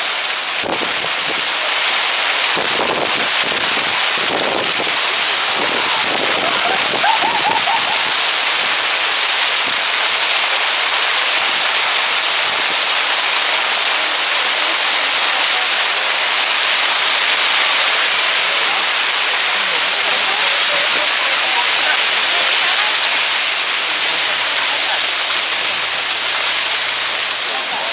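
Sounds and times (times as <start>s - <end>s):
heavy rain hissing: 0.0s - 27.9s.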